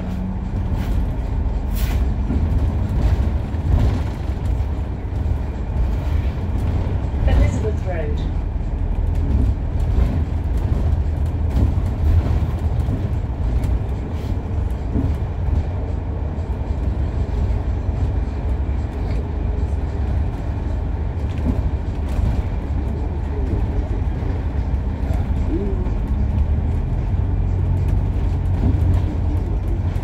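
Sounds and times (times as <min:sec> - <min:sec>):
bus engine and road noise: 0:00.0 - 0:30.0.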